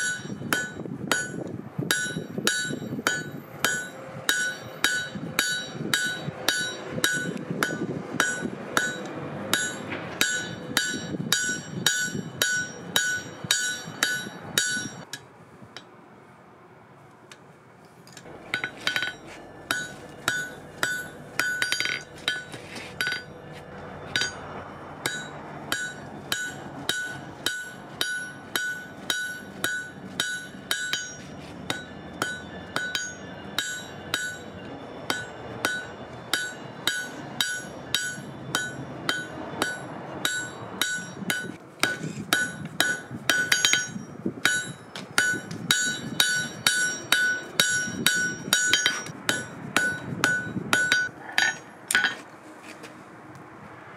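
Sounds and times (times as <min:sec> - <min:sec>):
hammer blows ringing on anvil: 0:00.0 - 0:15.1, 0:18.5 - 0:23.4, 0:24.1 - 0:52.2.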